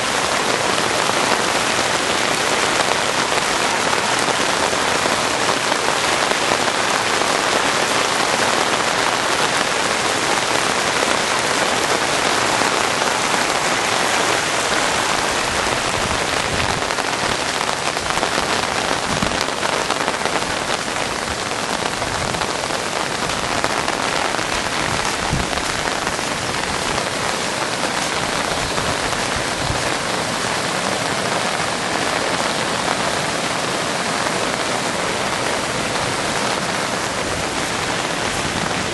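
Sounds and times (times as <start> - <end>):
heavy rain on pavement: 0.0 - 38.9.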